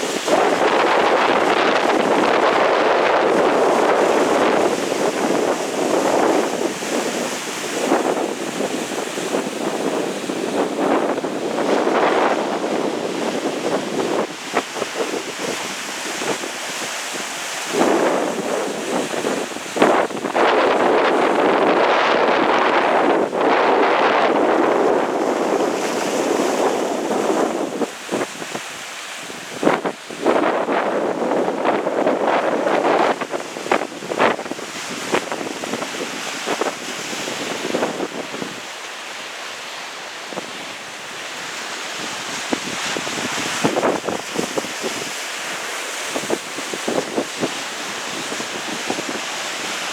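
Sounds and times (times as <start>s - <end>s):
wind buffeting microphone: 0.0s - 38.8s, 40.2s - 49.9s
waves washing: 0.0s - 49.9s.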